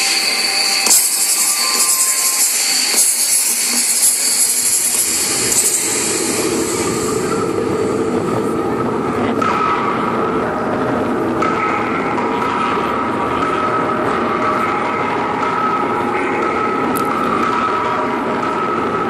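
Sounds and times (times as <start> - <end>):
steady held tone: 0.0 - 19.0.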